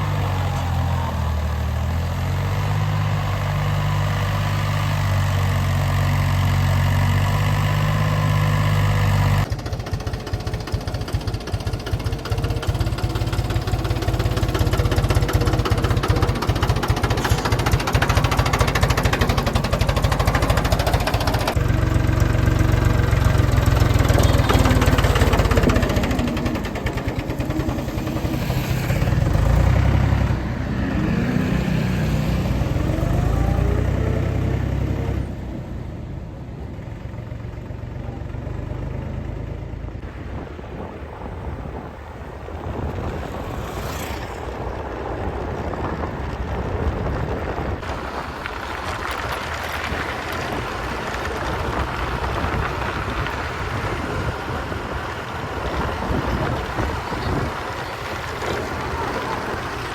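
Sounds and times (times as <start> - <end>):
tractor diesel engine revving: 0.0 - 36.8, 47.2 - 59.9.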